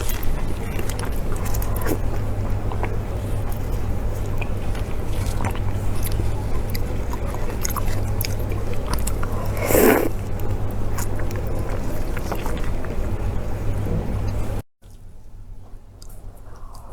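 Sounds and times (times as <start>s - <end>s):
chewing and biting: 0.0s - 15.1s
steady low hum: 0.0s - 16.9s.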